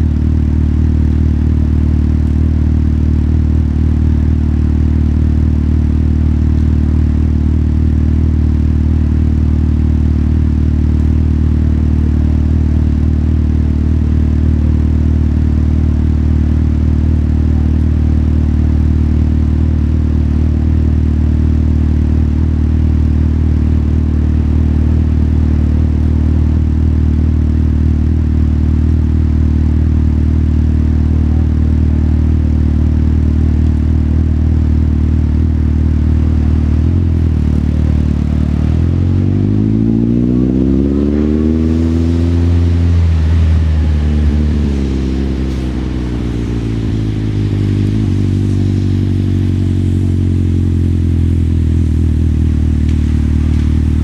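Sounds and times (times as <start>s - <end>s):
motorcycle engine idling: 0.0s - 40.6s, 41.9s - 54.0s.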